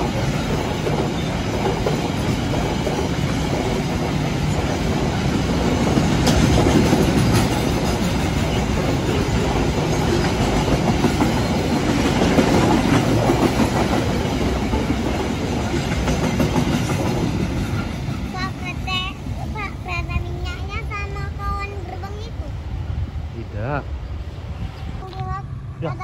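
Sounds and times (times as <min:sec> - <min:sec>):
wheels clattering on rails: 0:00.0 - 0:22.2
freight train rumbling past: 0:00.0 - 0:26.0.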